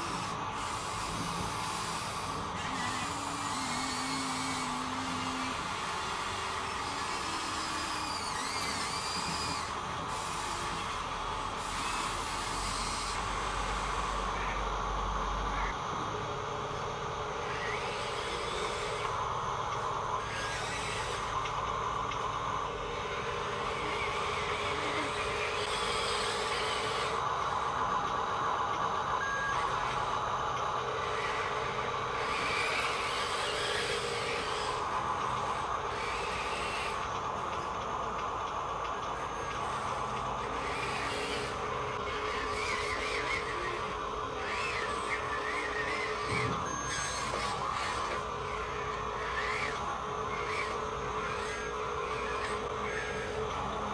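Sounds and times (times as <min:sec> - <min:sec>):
small electric motors whining: 0:00.0 - 0:53.9.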